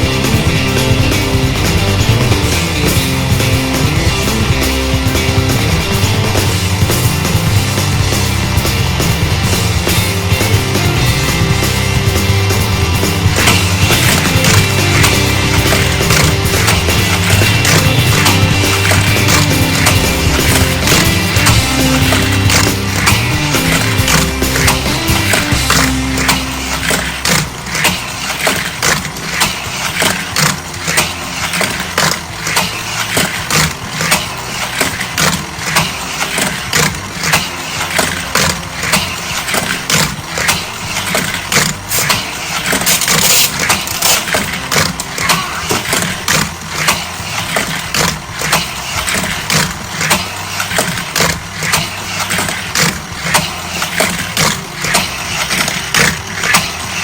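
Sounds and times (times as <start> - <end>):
electronic engine sound effects: 0.0 - 57.0
toy cars clattering on plastic track: 0.0 - 57.0.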